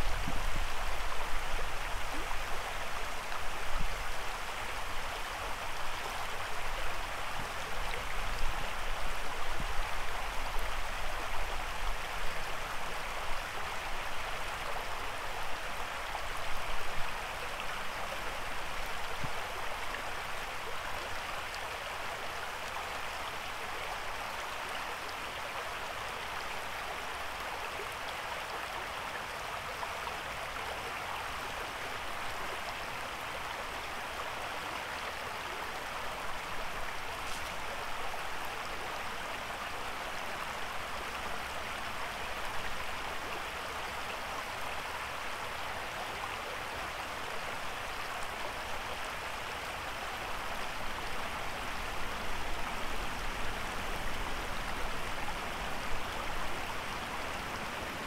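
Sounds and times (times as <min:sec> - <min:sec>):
creek flowing over rocks: 0:00.0 - 0:58.0.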